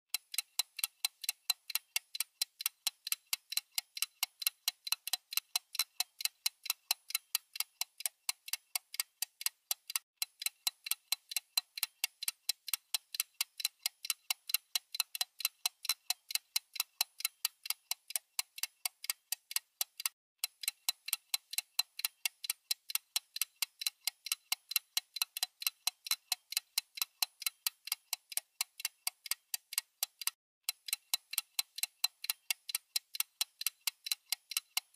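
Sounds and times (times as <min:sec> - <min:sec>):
clock ticking: 0:00.1 - 0:34.9.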